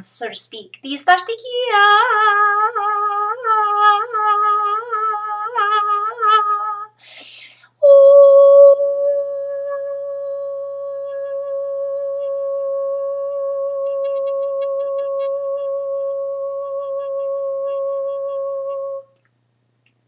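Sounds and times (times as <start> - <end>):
woman humming a long note: 2.2 - 6.9, 7.8 - 19.2.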